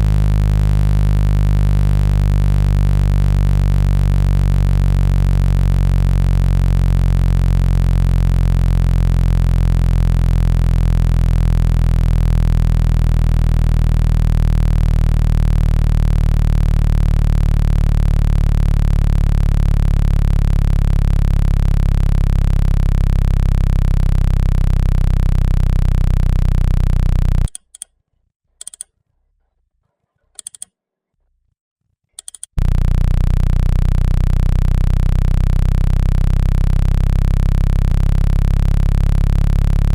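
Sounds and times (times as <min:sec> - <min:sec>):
low synthesized buzzing tone: 0:00.0 - 0:27.5, 0:32.6 - 0:39.9.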